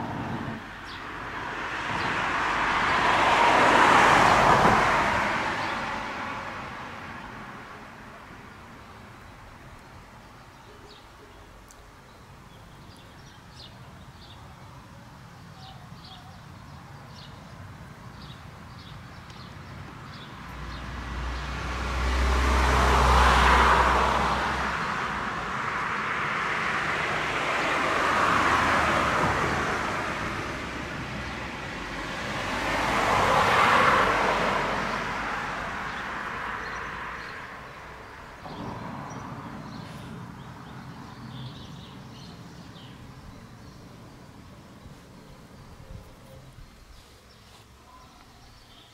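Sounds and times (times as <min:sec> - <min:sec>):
vehicles driving past: 0:00.0 - 0:48.9.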